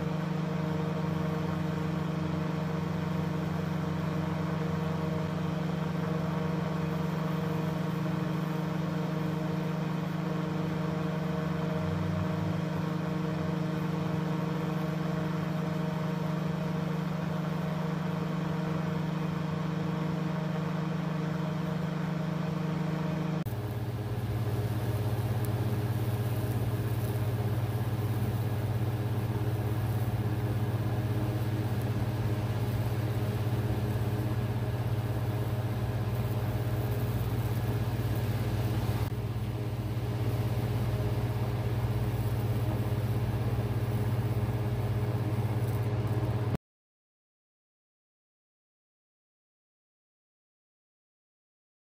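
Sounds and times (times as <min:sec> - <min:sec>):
high-voltage electrical buzz: 0:00.0 - 0:46.6.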